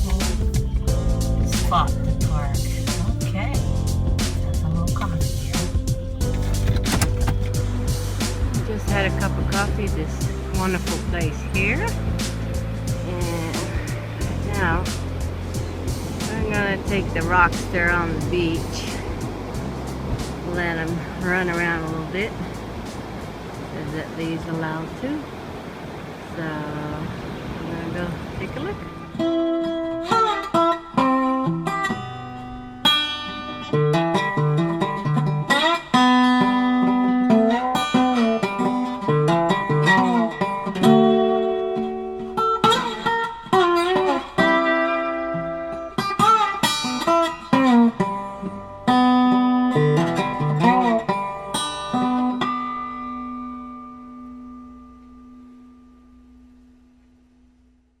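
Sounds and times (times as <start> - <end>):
plucked guitar music: 0.0 - 25.2, 28.5 - 56.5.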